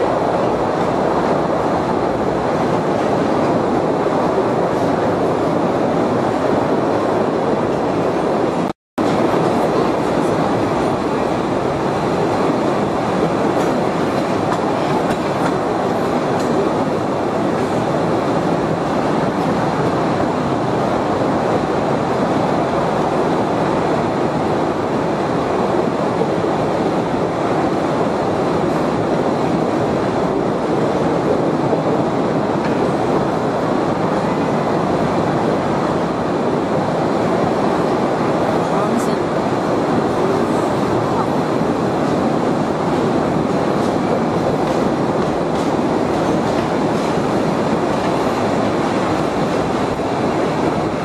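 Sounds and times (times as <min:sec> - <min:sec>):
train wheels on rail: 0:00.0 - 0:51.0.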